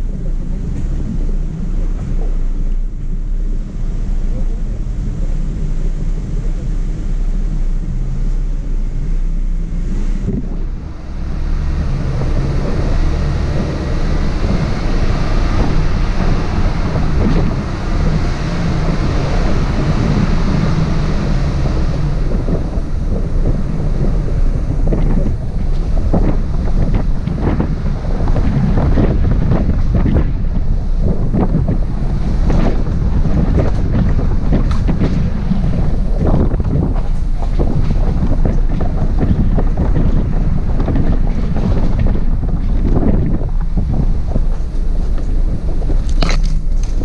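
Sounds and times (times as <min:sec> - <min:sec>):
engine droning: 0:00.0 - 0:47.0
wind buffeting microphone: 0:00.0 - 0:47.0.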